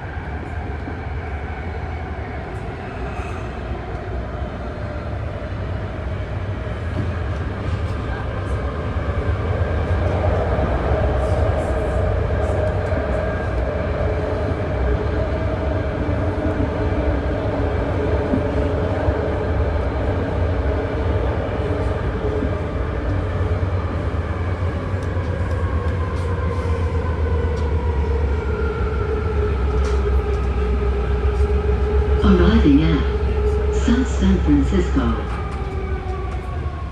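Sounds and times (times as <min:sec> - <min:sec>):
train rumble: 0:00.0 - 0:36.9.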